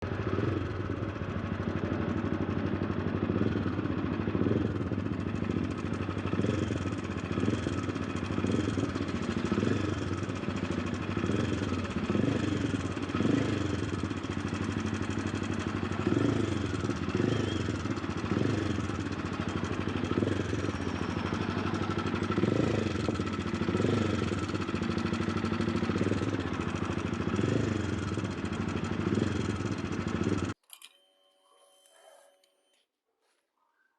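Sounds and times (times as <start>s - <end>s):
motorcycle engine running: 0.0s - 30.6s.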